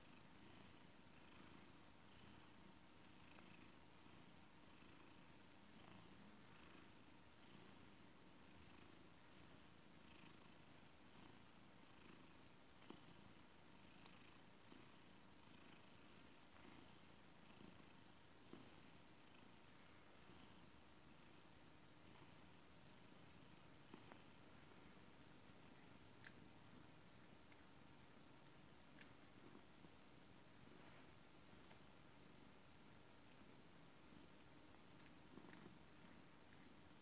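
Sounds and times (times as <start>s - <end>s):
cat purring: 0.0s - 37.0s.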